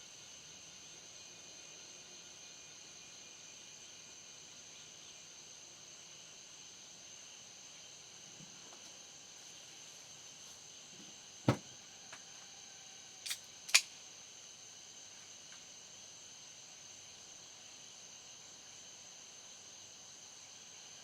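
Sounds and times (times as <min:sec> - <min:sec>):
night insects chirring: 0:00.0 - 0:21.0.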